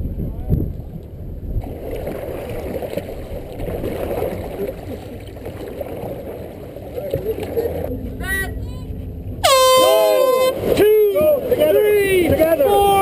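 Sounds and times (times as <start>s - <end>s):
paddles splashing through water: 0.7s - 13.0s.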